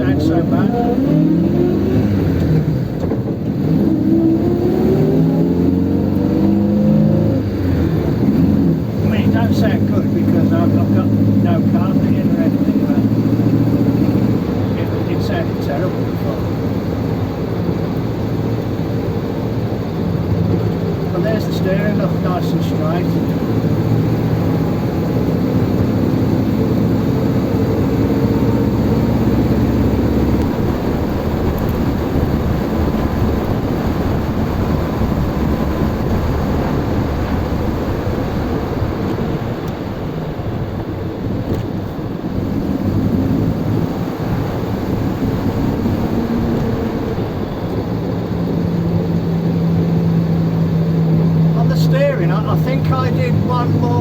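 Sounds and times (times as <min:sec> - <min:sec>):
car engine droning: 0:00.0 - 0:54.0
road noise inside car: 0:00.0 - 0:54.0.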